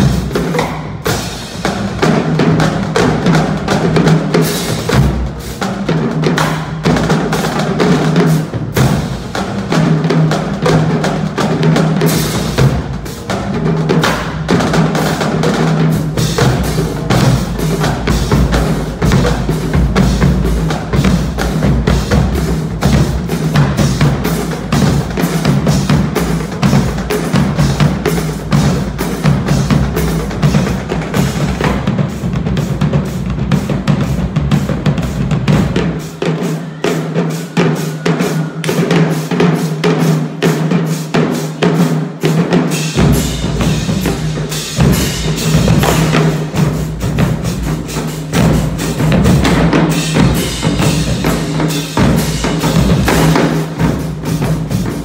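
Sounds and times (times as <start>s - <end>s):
bass drums: 0.0s - 36.8s, 37.5s - 55.0s
cymbals: 0.0s - 55.0s
snare drums: 0.0s - 55.0s
tenor drums: 0.0s - 55.0s.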